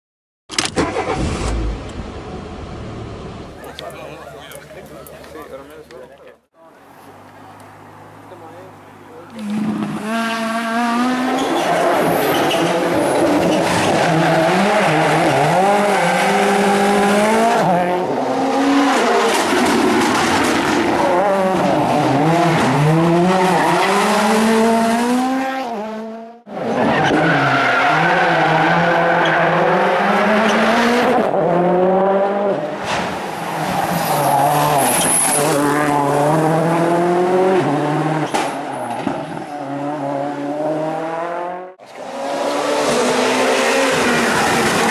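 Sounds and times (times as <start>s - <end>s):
rally car engine at full throttle: 7.7s - 44.9s.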